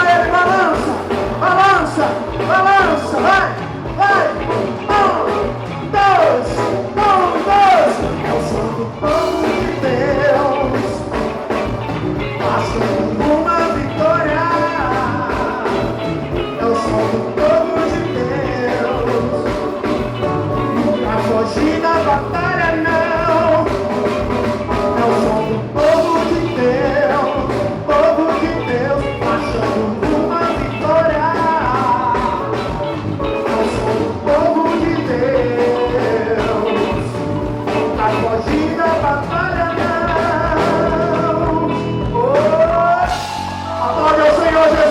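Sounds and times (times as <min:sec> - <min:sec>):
steady drum beat: 0:00.0 - 0:44.9
upbeat band music: 0:00.0 - 0:44.9.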